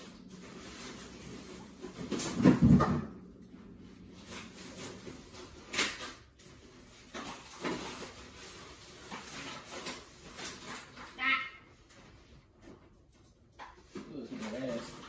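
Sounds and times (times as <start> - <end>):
rustles and knocks of handling: 0.0 - 11.2, 11.8 - 15.0.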